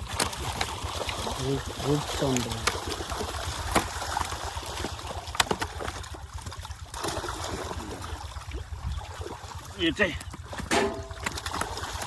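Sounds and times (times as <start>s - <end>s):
fish slapping: 0.0s - 8.2s, 10.3s - 12.0s
water splashing and trickling: 0.0s - 12.0s.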